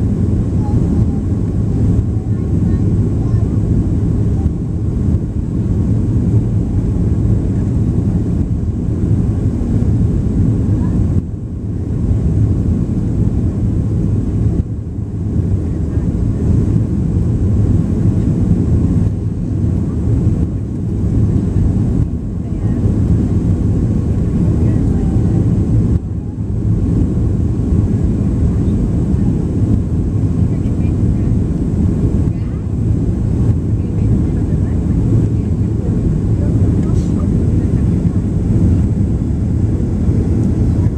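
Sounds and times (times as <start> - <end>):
jet engines roaring: 0.0 - 40.9.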